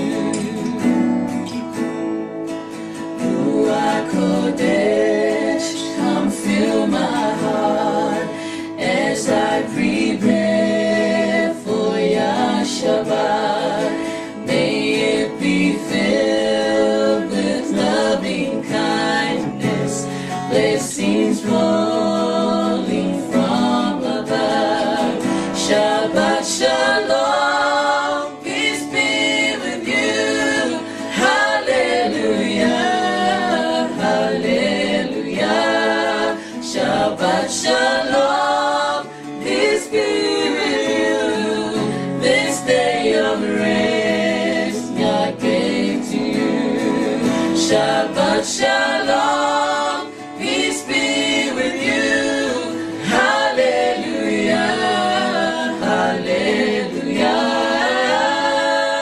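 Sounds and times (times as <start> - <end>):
choir singing with accompaniment: 0.0 - 59.0.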